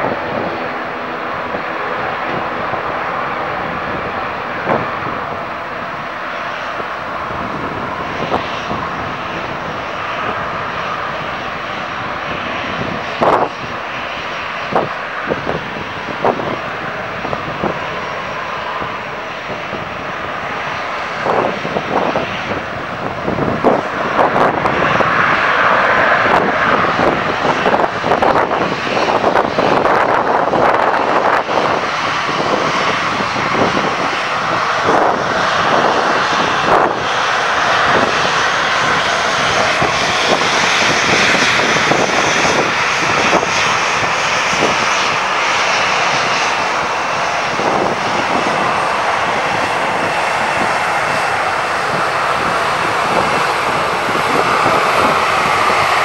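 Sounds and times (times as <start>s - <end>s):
airliner engines roaring: 0.0s - 56.0s.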